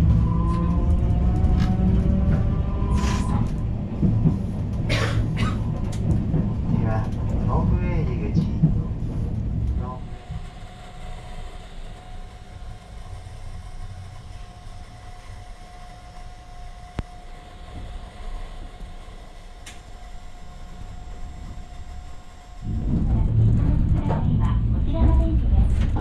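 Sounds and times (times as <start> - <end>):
streetcar rumble: 0.0 - 26.0.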